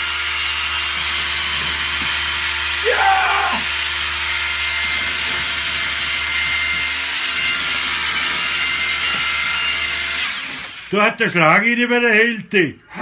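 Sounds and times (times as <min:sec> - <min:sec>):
power drill grinding into glass: 0:00.0 - 0:11.0.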